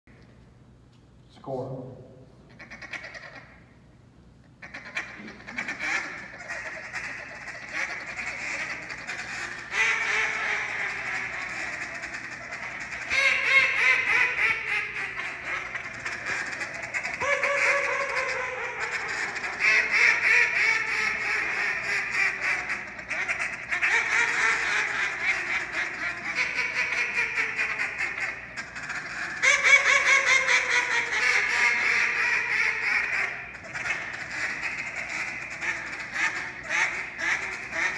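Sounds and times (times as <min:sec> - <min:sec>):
fast chattering duck calls: 0:02.5 - 0:03.6, 0:04.6 - 0:37.9
duck calls quacking: 0:02.5 - 0:03.7, 0:04.6 - 0:37.9.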